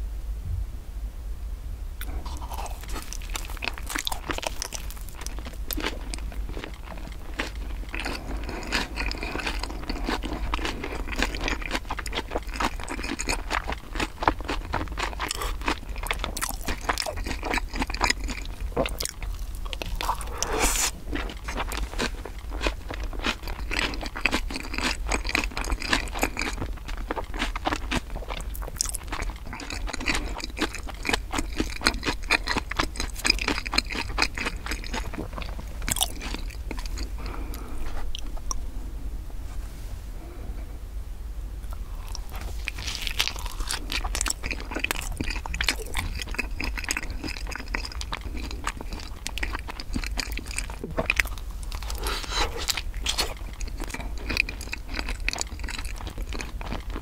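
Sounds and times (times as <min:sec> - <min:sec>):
close chewing: 0:02.0 - 0:38.6, 0:41.7 - 0:57.0.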